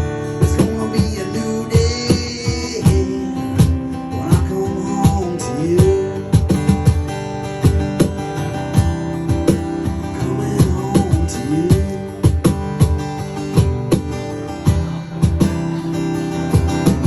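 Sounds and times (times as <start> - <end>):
drum hits: 0.0 - 17.0
strummed guitar: 0.0 - 17.0.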